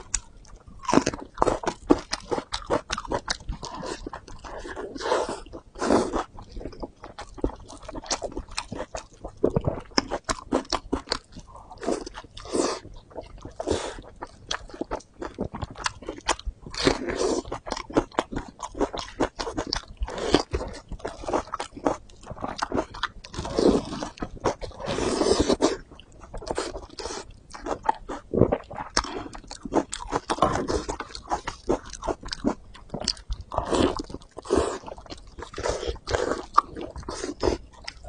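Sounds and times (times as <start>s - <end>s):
wet chewing and smacking: 0.0s - 38.0s.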